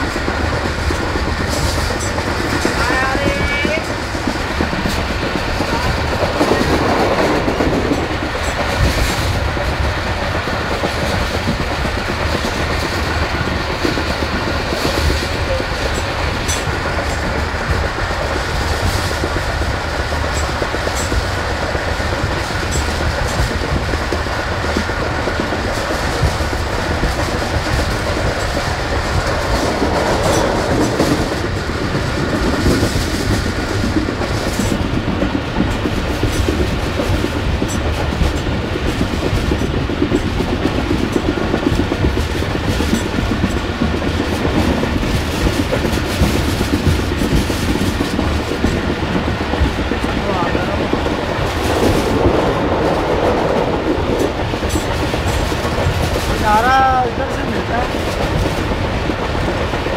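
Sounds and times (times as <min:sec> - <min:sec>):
train rumbling: 0:00.0 - 0:59.9
wheels clacking over rail joints: 0:00.0 - 0:59.9.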